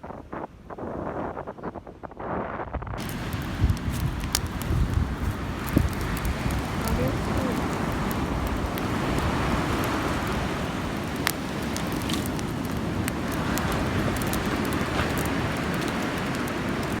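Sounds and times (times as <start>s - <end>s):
fire crackles and pops: 0.0s - 17.0s
bonfire rushing: 2.8s - 17.0s.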